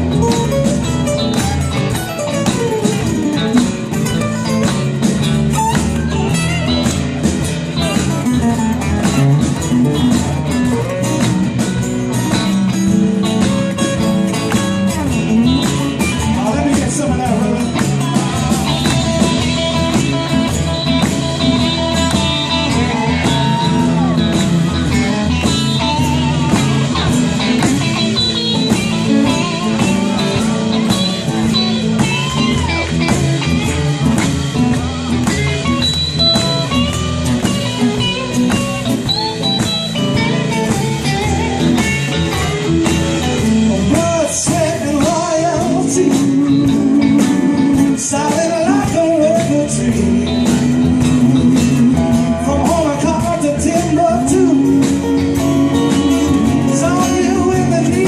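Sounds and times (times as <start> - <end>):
bass guitar: 0.0 - 58.0
lead guitar soloing: 0.0 - 58.0
steady drum beat: 0.0 - 58.0.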